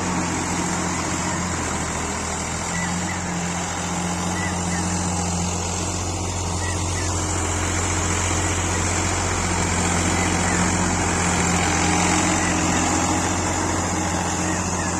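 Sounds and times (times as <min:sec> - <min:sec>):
tractor diesel engine droning: 0:00.0 - 0:14.9.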